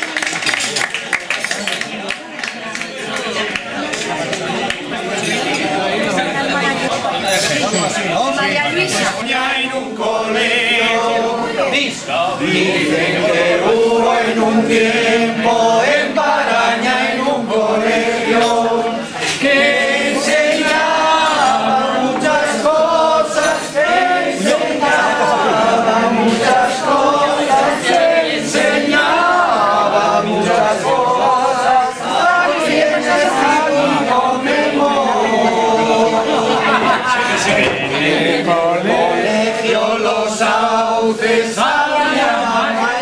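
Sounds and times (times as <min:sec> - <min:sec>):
group of people singing: 0:08.0 - 0:43.0.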